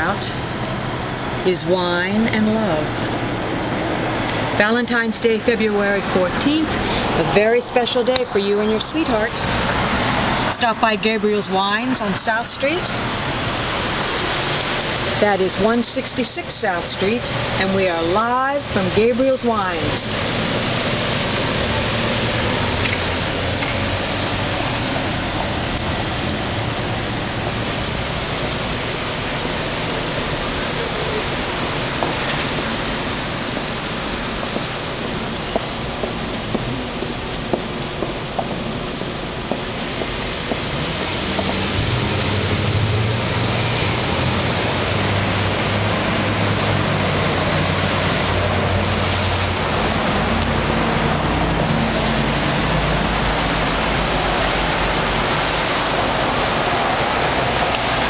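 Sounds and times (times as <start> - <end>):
low hum of car engines: 0.0 - 58.0
steady rushing noise: 0.0 - 58.0
traffic hiss: 2.3 - 58.0.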